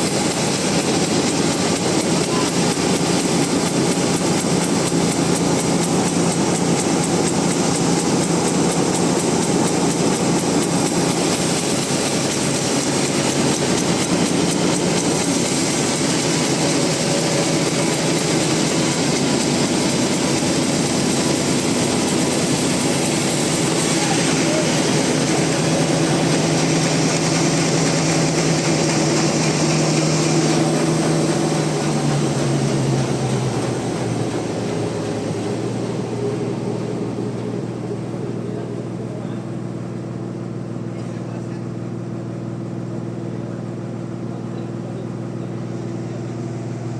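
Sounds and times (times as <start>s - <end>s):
band sawmill cutting log: 0.0s - 39.2s.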